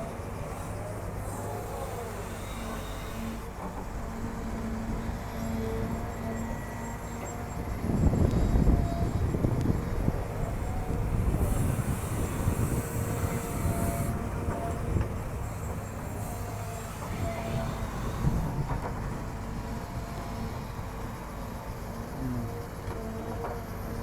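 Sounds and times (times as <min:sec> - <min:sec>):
hydraulic whine: 0:00.0 - 0:23.8.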